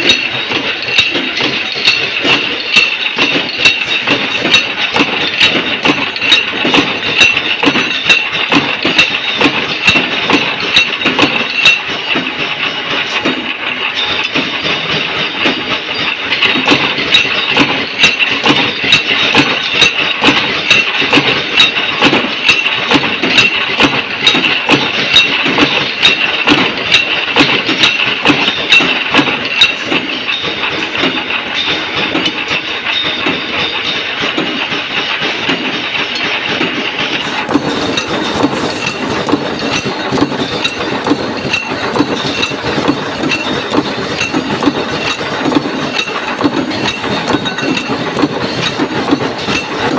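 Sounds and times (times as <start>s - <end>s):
machine running: 0.0s - 49.9s.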